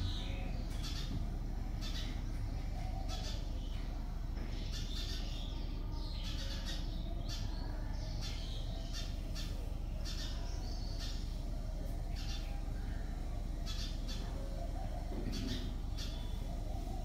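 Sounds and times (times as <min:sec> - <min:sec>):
birds squawking: 0:00.0 - 0:17.0.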